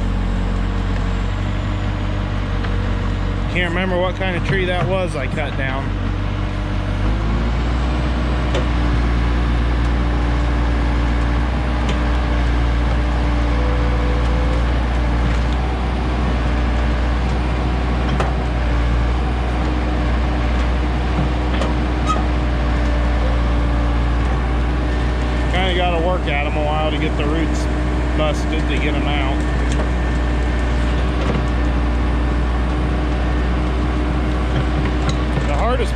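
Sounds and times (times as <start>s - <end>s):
engine droning: 0.0s - 35.9s.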